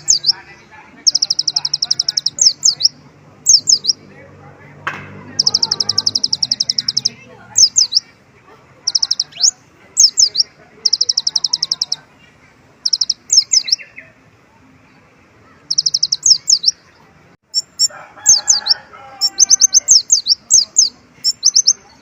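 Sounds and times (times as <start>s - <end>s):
sunbird singing trills: 0.0s - 4.0s, 5.2s - 8.1s, 8.8s - 14.2s, 15.4s - 16.9s, 17.5s - 22.0s.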